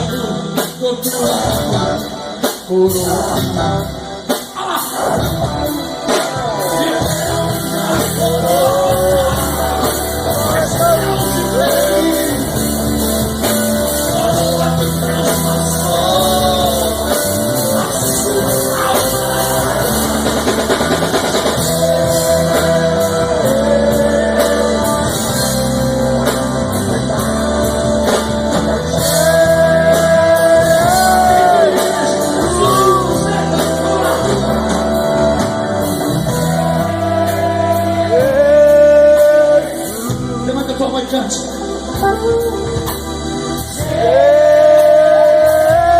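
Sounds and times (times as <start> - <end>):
band with drums and bass: 0.0 - 45.9
man singing lead vocals: 0.0 - 45.9.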